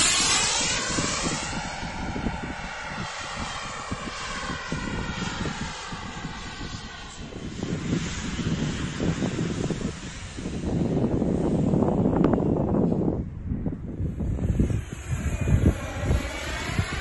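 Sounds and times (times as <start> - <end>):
jet turbine whining: 0.0 - 17.0
wind buffeting microphone: 0.0 - 17.0.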